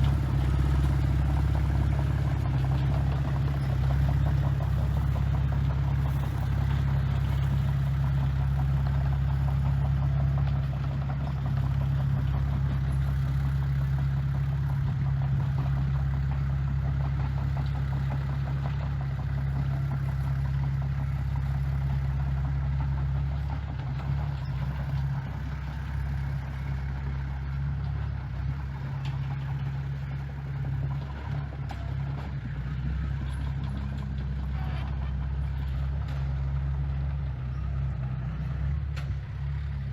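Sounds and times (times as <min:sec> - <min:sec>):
diesel engine of construction machinery: 0:00.0 - 0:39.9.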